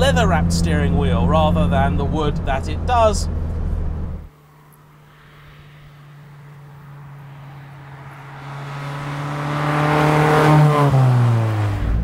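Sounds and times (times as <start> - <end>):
car engine driving past: 2.2 - 12.0.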